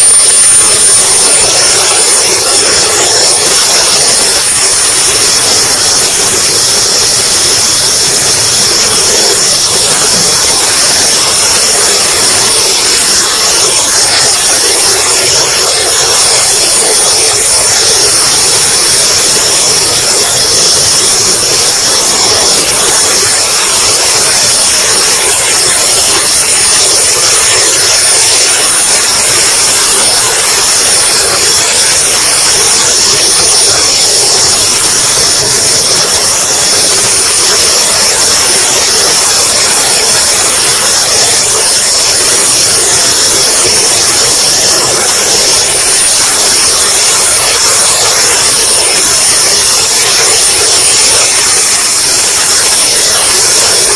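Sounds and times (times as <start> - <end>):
turbine engine high-pitched whine: 0.0 - 53.9.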